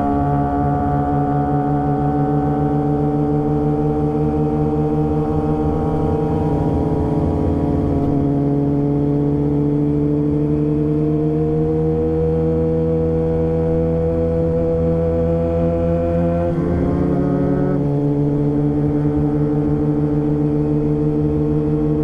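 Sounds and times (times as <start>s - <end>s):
low wind rumble: 0.0s - 22.0s
motorcycle engine cruising: 0.0s - 22.0s.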